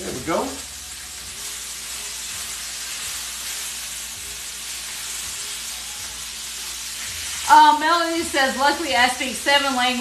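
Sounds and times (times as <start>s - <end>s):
beef sizzling in a pan: 0.0s - 10.0s.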